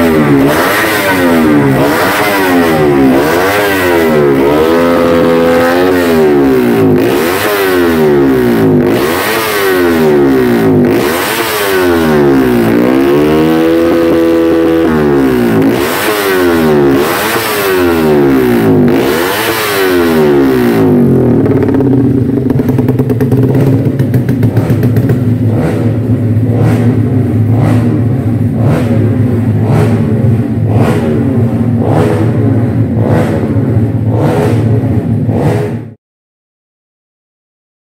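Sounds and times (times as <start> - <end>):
motorcycle engine revving and idling: 0.0 - 36.0.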